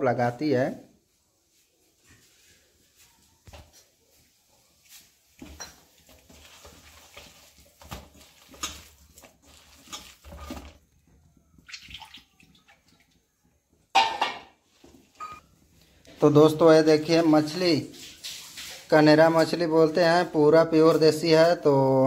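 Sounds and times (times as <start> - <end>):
hand mixing batter in steel bowl: 0.1 - 13.8, 14.7 - 22.0.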